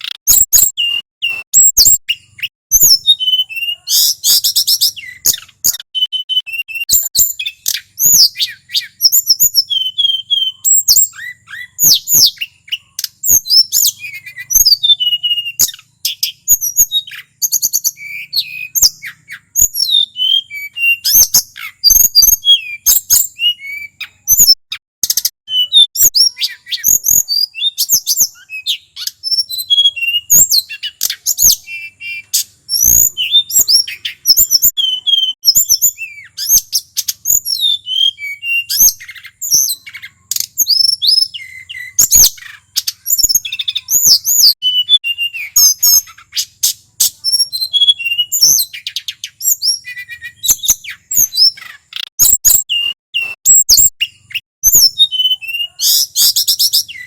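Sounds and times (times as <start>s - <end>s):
bird singing whistled trills: 0.0s - 57.0s.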